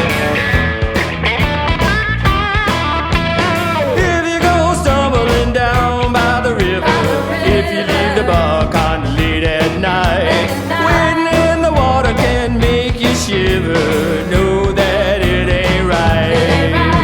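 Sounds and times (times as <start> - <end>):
bending sliding lead notes: 0.0 - 17.0
country-rock band music: 0.0 - 17.0
steady drum beat: 0.0 - 17.0.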